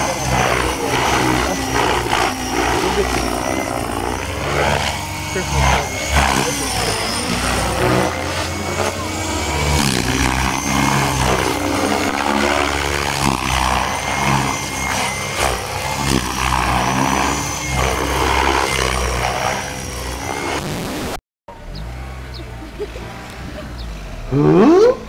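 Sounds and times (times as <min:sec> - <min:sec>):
model helicopter motor whine: 0:00.0 - 0:22.4.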